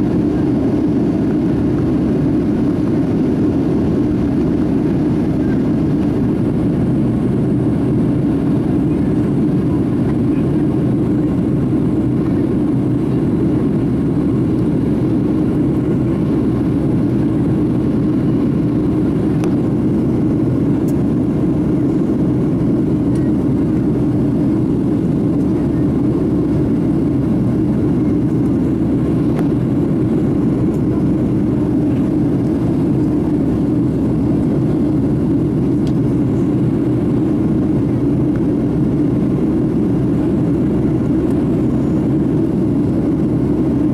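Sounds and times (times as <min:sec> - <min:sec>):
jet engines roaring: 0:00.0 - 0:43.9
rushing airflow in cabin: 0:00.0 - 0:43.9.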